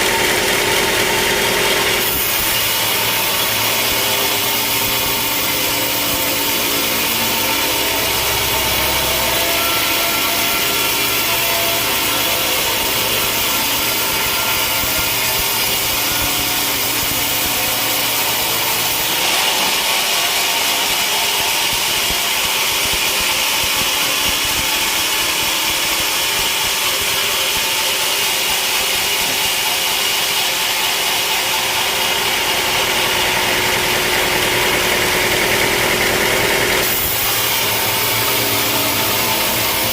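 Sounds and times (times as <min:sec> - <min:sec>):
running motor: 0:00.0 - 0:39.9
saw blade cutting log: 0:00.0 - 0:39.9.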